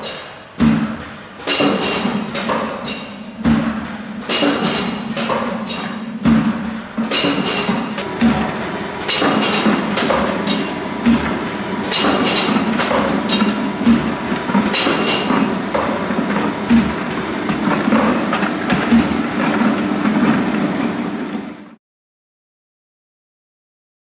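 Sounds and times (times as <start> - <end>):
machine hum: 0.8 - 21.8.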